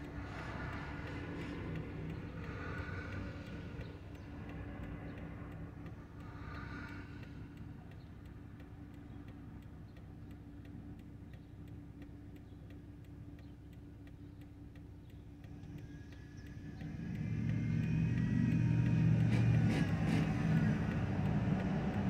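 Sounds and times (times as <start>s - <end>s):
car engine idling: 0.0s - 22.0s
turn signal ticking: 0.0s - 22.0s.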